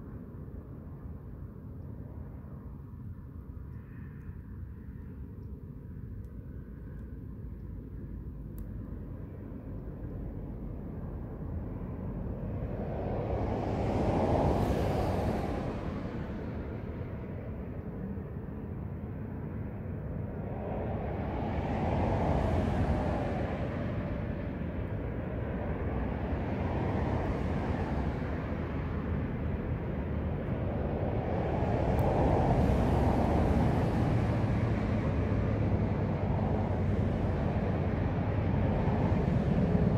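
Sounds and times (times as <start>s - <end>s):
vehicles going by: 5.8s - 39.9s.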